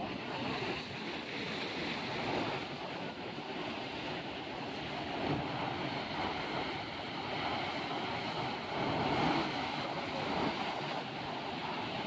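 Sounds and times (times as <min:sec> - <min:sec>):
ocean surf breaking on rocks: 0:00.2 - 0:12.0.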